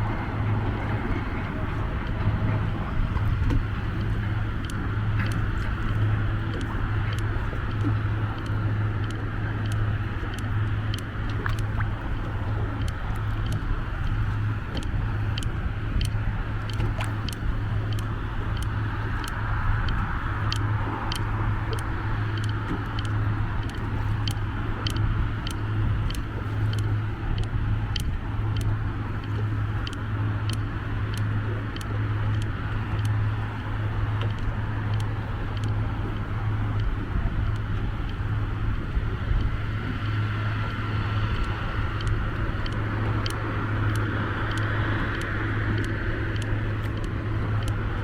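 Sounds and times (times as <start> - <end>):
low engine hum: 0.0 - 48.0
sharp ticks: 3.4 - 11.8, 12.7 - 38.2, 40.7 - 47.9.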